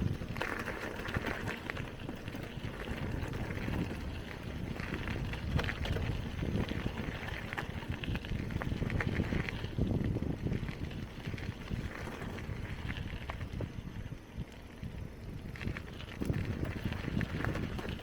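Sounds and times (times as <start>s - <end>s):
bicycle rattling clicks: 0.0s - 18.0s
bicycle tyres rolling on rough ground: 0.0s - 18.0s
wind rumbling on microphone: 0.0s - 18.0s.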